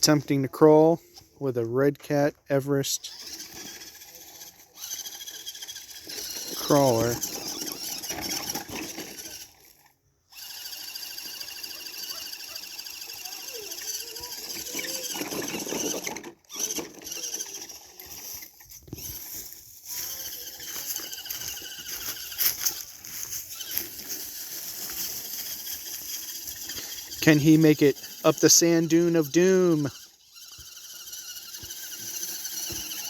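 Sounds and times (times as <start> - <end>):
small electric motor whining: 2.8 - 33.0.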